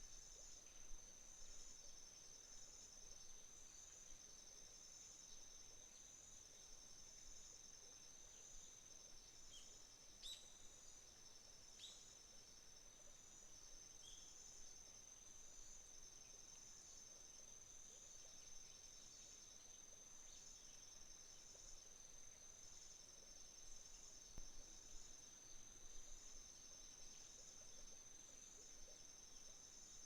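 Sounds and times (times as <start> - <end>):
steady high-pitched insect trill: 0.0 - 30.0.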